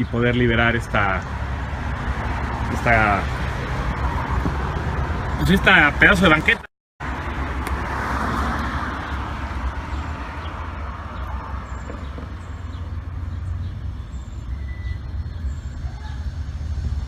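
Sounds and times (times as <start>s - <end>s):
road traffic rumble: 0.0s - 17.0s
vehicle passing: 1.1s - 17.0s.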